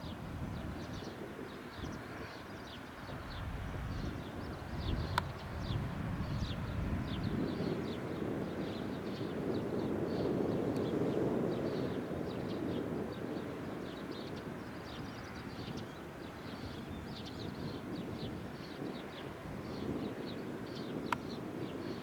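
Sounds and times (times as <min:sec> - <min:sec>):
small birds chirping: 0:00.6 - 0:22.0.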